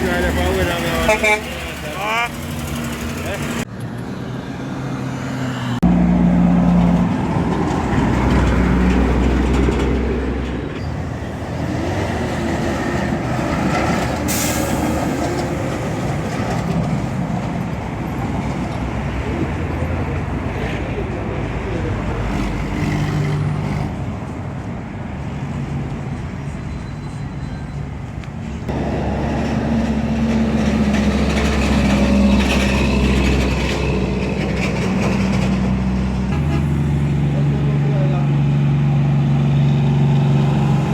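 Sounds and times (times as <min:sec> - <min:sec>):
heavy truck engines running: 0:00.0 - 0:40.9.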